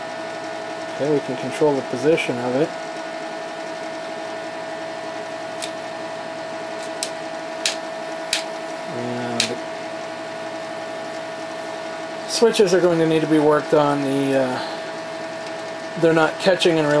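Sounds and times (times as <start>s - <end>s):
power supply fan hum and whine: 0.0s - 17.0s.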